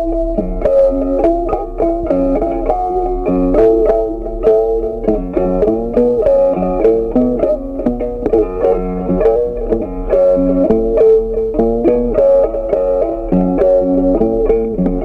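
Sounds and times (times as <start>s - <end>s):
plucked string music: 0.0s - 15.0s.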